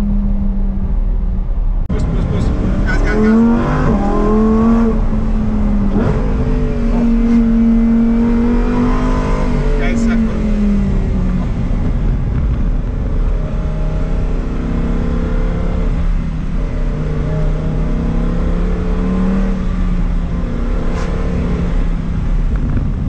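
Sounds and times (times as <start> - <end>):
road noise: 0.0 - 23.0
sports car engine: 0.0 - 23.0.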